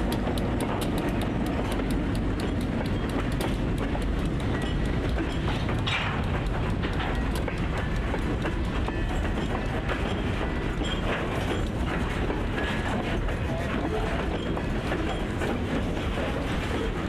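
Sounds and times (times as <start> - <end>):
locomotive engine rumble: 0.0 - 17.0
rolling rail cars clicking and knocking: 0.0 - 17.0.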